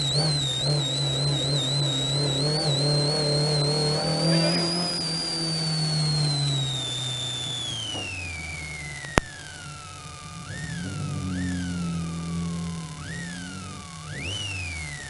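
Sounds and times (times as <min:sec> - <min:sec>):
car engine running hard: 0:00.0 - 0:15.0
high engine whine: 0:00.0 - 0:15.0.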